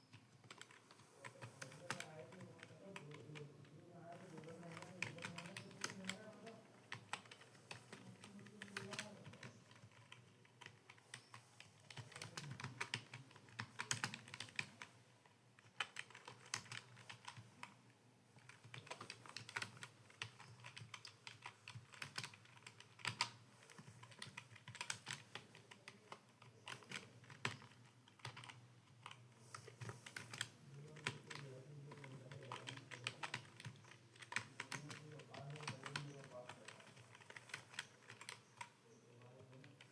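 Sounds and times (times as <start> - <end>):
computer keyboard typing: 0.0 - 17.8, 18.4 - 39.9.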